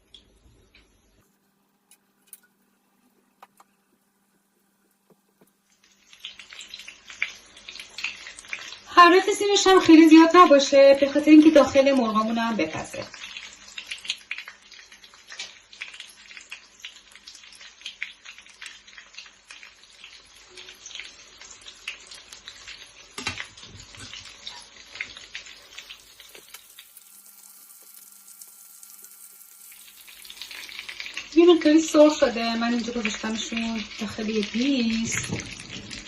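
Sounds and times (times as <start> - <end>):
food frying in hot oil: 0.0 - 36.0.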